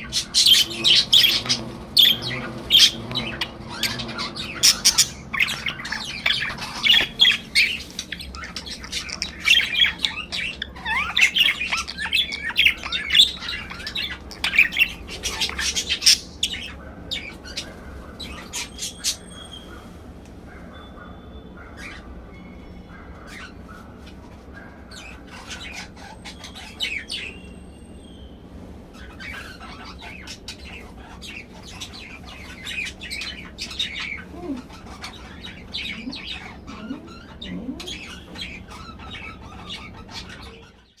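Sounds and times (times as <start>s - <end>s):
budgerigars chirping and warbling: 0.0s - 41.0s
steady low hum: 0.0s - 41.0s.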